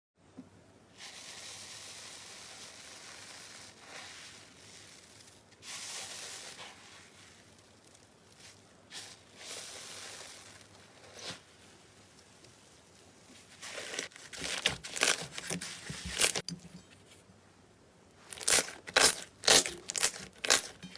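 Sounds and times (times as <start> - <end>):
slime squelching: 1.0 - 16.6, 18.2 - 20.9.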